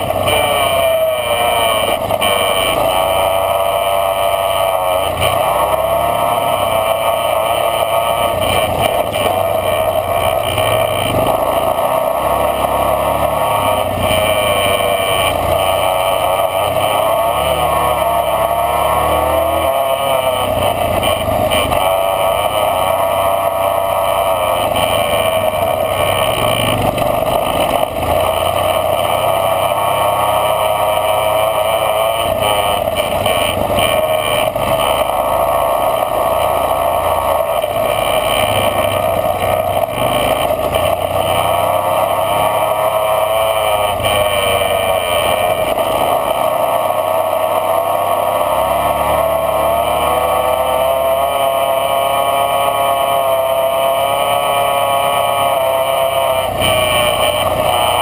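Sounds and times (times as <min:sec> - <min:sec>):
off-road vehicle engine: 0:00.0 - 0:58.0.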